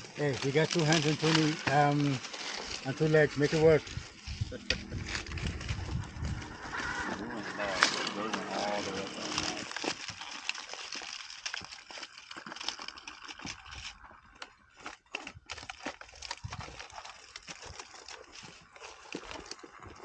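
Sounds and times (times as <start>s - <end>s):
dry twigs and leaves crackling: 0.0s - 20.0s.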